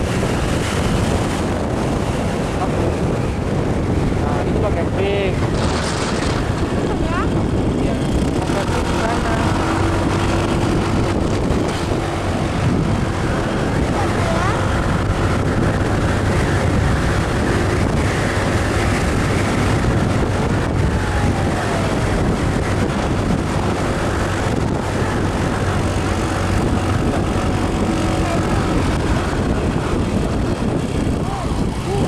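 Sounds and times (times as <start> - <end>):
motorcycle engine drone: 0.0 - 32.0
wind rushing over microphone: 0.0 - 32.0.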